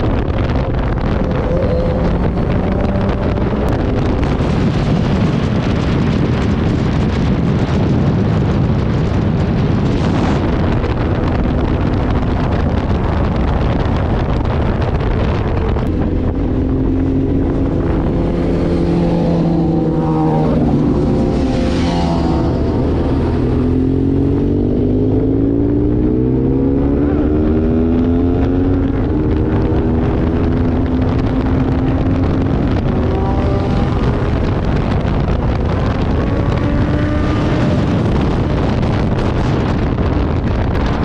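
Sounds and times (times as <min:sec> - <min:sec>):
motorcycle engine: 0:00.0 - 0:41.0
wind rushing over microphone: 0:00.0 - 0:41.0.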